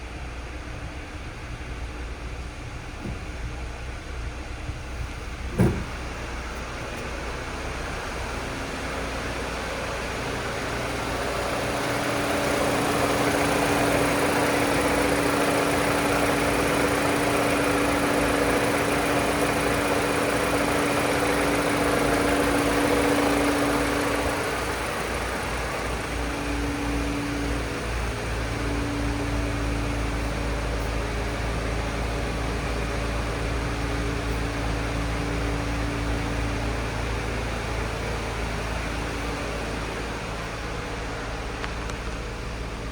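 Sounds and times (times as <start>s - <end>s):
car engine running: 0.6s - 42.9s.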